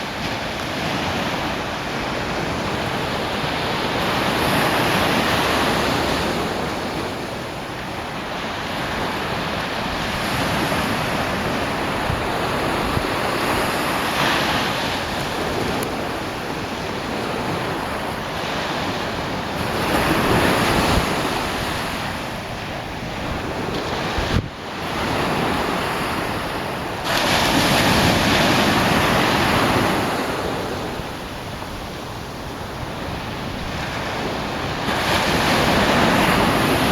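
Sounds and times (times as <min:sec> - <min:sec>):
surf breaking on sandy beach: 0:00.0 - 0:36.9.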